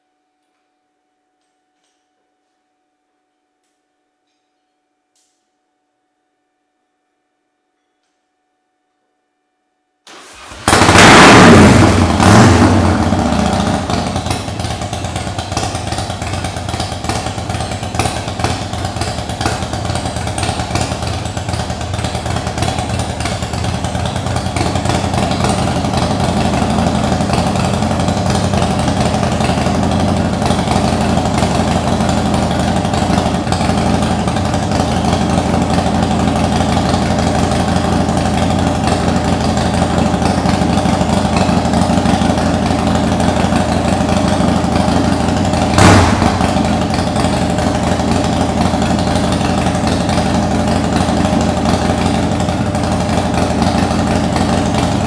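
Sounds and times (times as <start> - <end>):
motorcycle engine starting and idling: 10.1 - 55.0.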